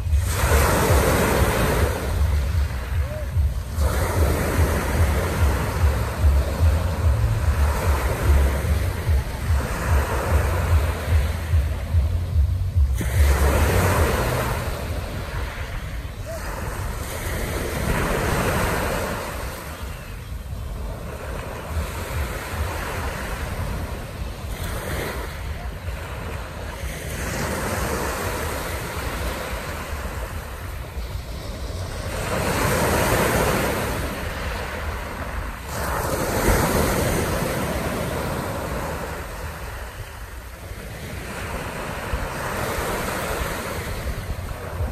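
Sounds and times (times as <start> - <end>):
waves washing on pebble beach: 0.0 - 12.0, 13.0 - 44.9
wind rumble on microphone: 0.0 - 44.9.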